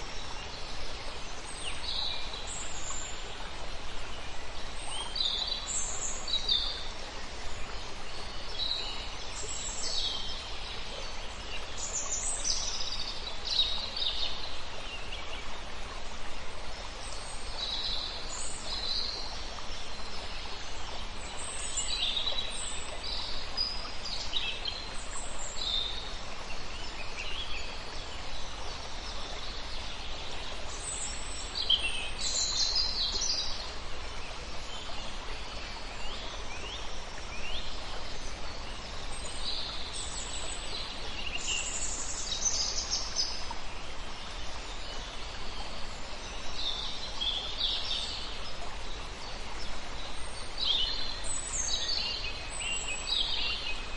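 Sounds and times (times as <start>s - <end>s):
outdoor background hiss: 0.0s - 53.9s.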